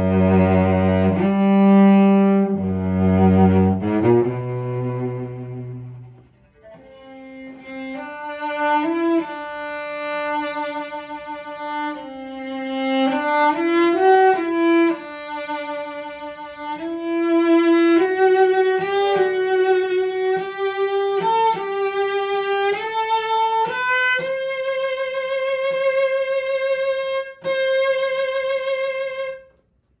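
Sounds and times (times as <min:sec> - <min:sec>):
solo cello bowed melody: 0:00.0 - 0:29.7.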